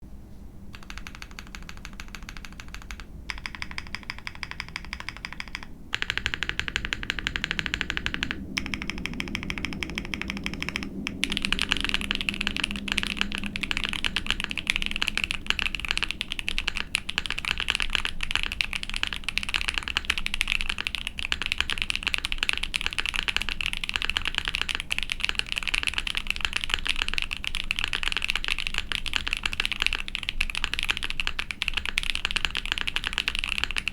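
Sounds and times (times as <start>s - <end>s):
mechanical keyboard typing: 0.7s - 33.9s.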